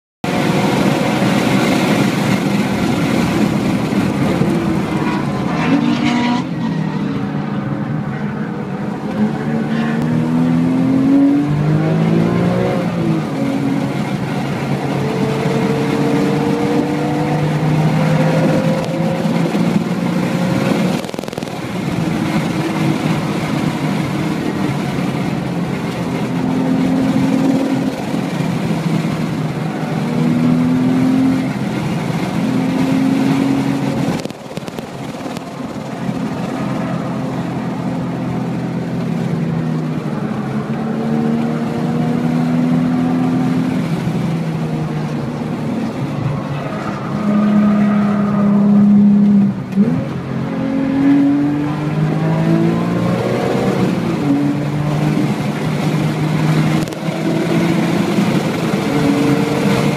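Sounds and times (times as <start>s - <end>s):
car engine at full throttle: 0.2s - 59.9s.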